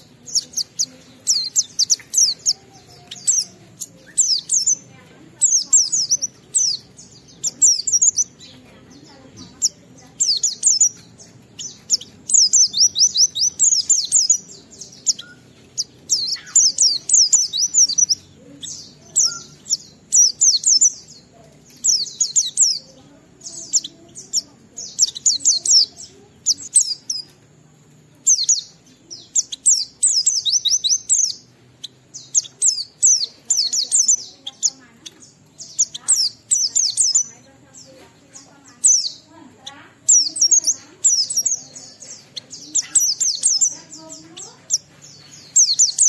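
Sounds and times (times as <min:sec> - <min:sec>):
bird singing high twittering phrases: 0:00.0 - 0:46.0.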